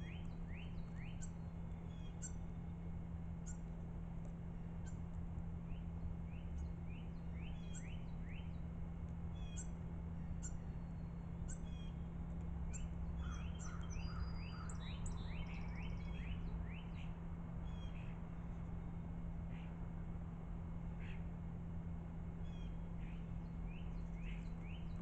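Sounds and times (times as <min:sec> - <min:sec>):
songbirds chirping: 0:00.0 - 0:25.0
steady low hum: 0:00.0 - 0:25.0.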